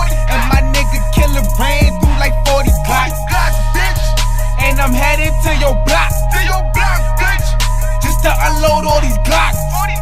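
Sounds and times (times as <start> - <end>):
hip hop music: 0.0 - 10.0
rapping voice: 0.0 - 10.0.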